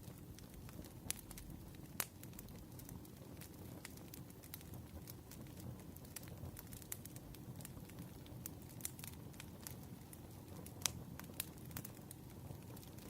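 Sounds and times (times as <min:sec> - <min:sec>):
firewood burning with crackles: 0:00.0 - 0:13.0.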